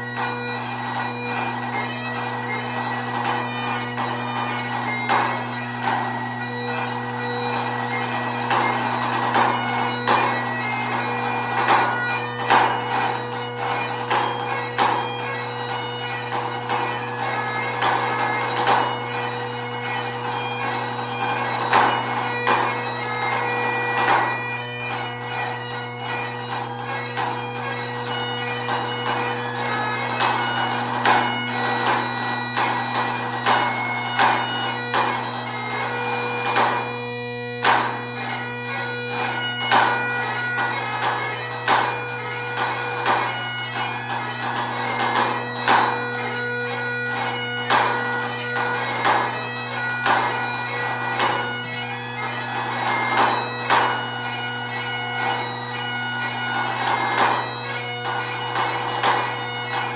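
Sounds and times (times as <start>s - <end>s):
bagpipe playing a tune: 0.0s - 59.9s.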